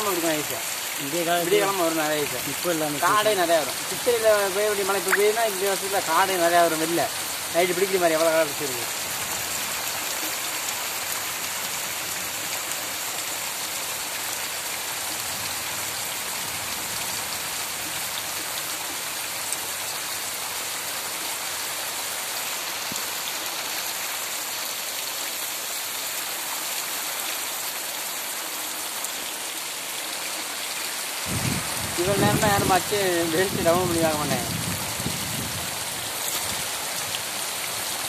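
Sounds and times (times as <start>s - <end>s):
heavy rain on earth: 0.0s - 38.0s.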